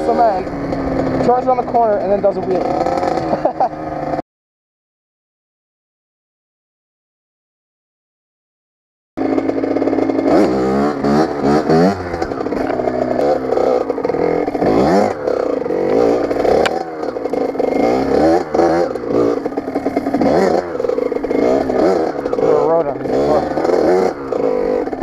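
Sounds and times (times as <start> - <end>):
dirt bike engine revving: 0.0 - 4.2, 9.2 - 25.0.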